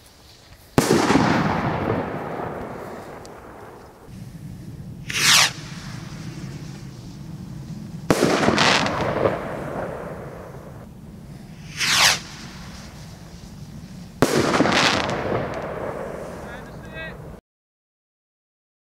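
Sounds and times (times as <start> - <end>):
firework rocket whoosh: 0.0 - 17.4
firework bang and pops: 0.8 - 4.1, 5.0 - 17.4.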